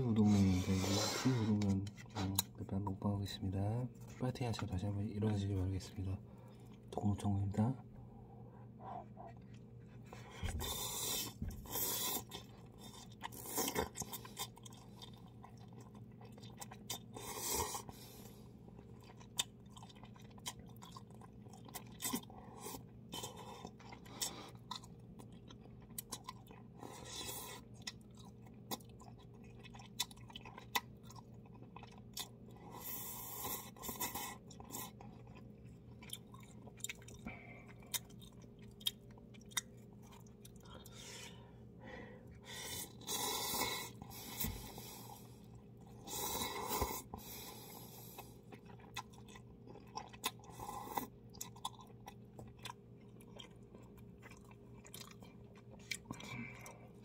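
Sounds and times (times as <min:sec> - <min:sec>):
chewing and lip smacks: 0:09.0 - 0:32.8, 0:33.4 - 0:41.0, 0:42.3 - 0:57.0.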